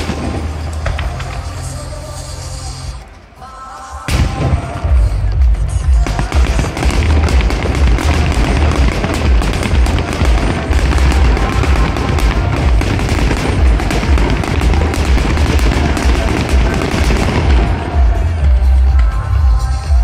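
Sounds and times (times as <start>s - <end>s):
fireworks crackling and banging: 0.0s - 20.0s
loud music with heavy bass: 0.0s - 20.0s.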